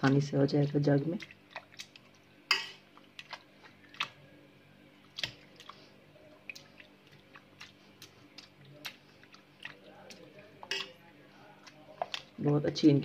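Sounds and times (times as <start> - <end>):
wet squelches of mashing tomatoes: 0.0 - 13.0.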